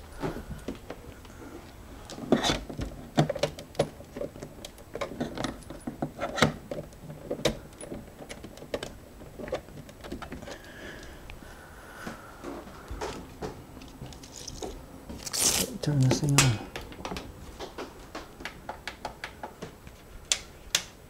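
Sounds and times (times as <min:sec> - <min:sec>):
cables and computer parts rattling: 0:00.2 - 0:11.2, 0:12.4 - 0:20.9.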